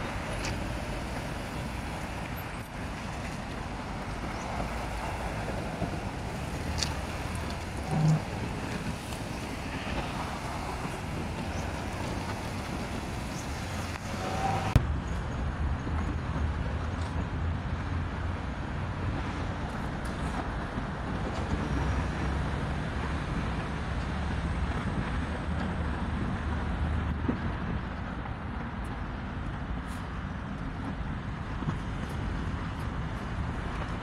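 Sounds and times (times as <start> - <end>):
cars passing on busy road: 0.0 - 34.0.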